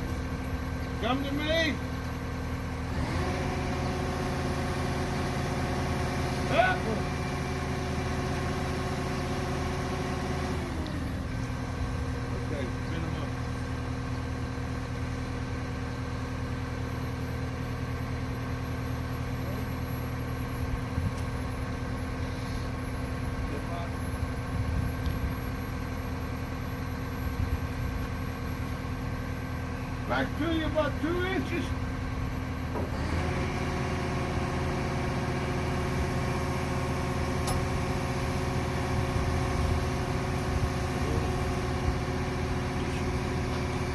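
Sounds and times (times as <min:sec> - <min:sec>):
machine engine idling: 0:00.0 - 0:43.9.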